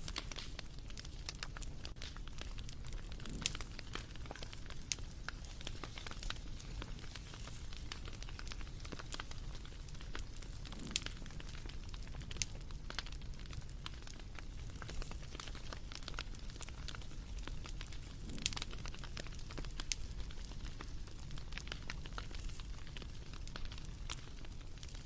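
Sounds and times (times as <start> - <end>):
bonfire crackling and popping: 0.0 - 25.0
low fire rumble: 0.0 - 25.0.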